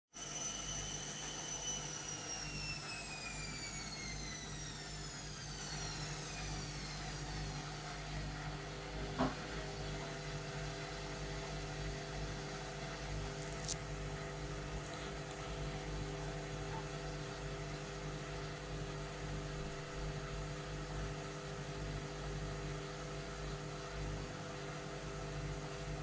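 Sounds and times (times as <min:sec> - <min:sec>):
washing machine motor whine: 0:00.1 - 0:26.0.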